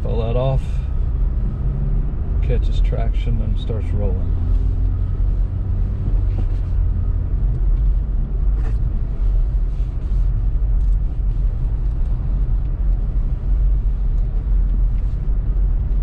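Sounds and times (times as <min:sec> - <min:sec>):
car driving on snow: 0:00.0 - 0:16.0.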